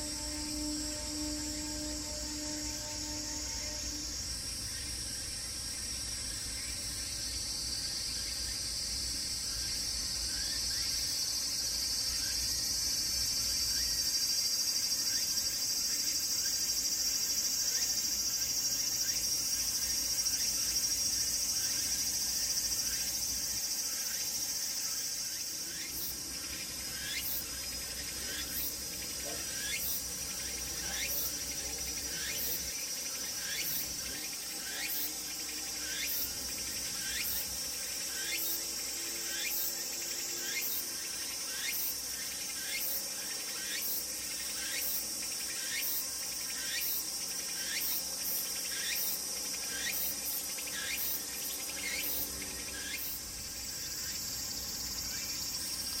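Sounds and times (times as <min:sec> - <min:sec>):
cicada rhythmic phrase: 0:00.0 - 0:56.0
cicadas droning: 0:00.0 - 0:56.0.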